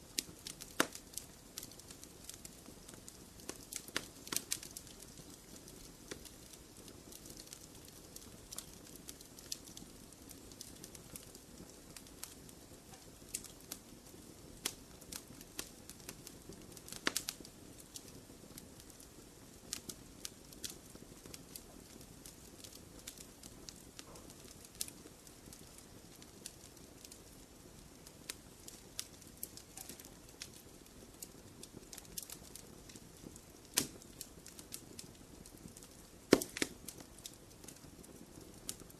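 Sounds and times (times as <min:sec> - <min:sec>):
wood fire crackling: 0:00.0 - 0:38.9
fire pops and snaps: 0:00.1 - 0:38.9.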